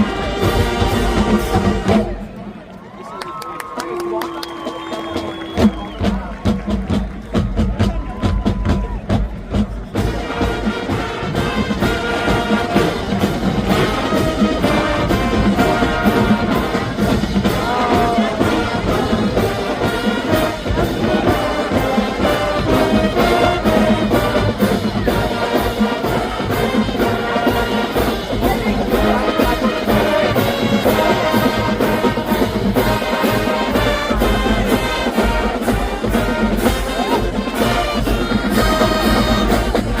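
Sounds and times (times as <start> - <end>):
drumline beat: 0.0 - 2.4, 4.4 - 40.0
marching band brass: 0.0 - 2.8, 4.0 - 40.0.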